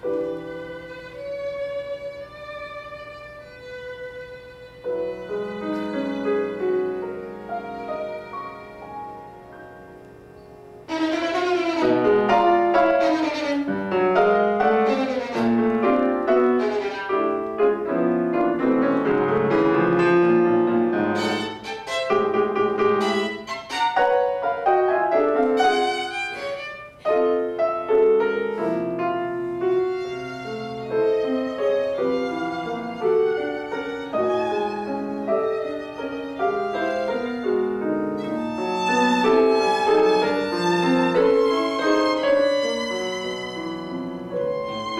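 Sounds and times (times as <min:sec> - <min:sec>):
violin: 0:00.0 - 0:10.1, 0:10.7 - 0:44.9
grand piano: 0:00.0 - 0:44.9.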